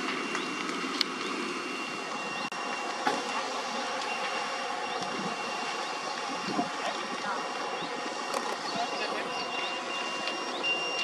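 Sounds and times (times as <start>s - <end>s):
fire burning: 0.0s - 11.0s
fire engine pumps running: 0.0s - 11.0s.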